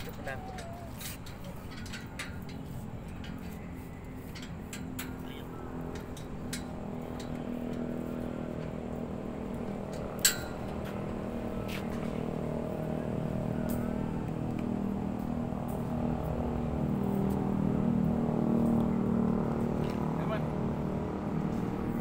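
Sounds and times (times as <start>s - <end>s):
vehicle engines humming: 0.0s - 22.0s.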